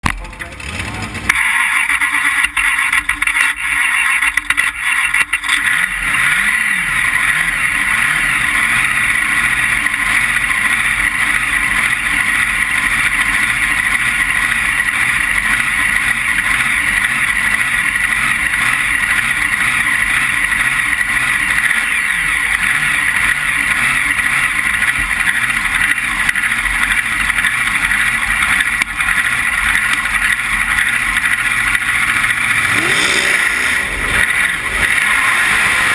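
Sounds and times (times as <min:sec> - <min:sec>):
dragster engine roaring: 0:00.0 - 0:35.9.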